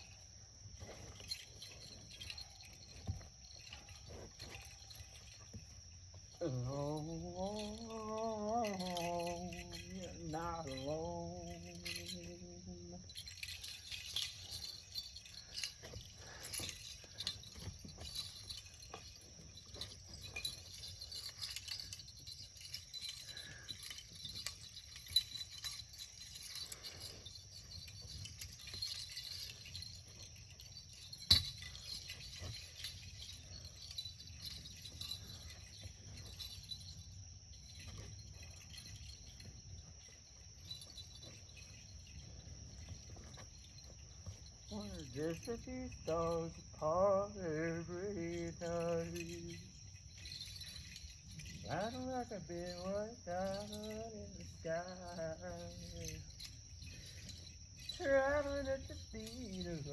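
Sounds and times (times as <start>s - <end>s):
crickets chirping: 0.0s - 59.9s
light jingling and rattling clicks: 0.0s - 59.9s.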